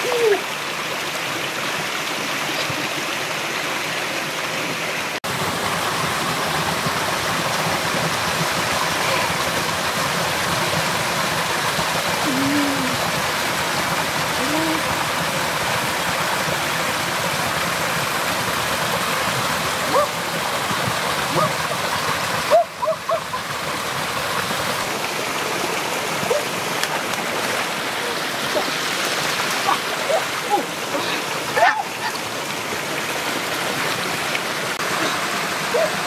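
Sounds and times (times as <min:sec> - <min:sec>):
small waterfall splashing into pool: 0:00.0 - 0:36.0.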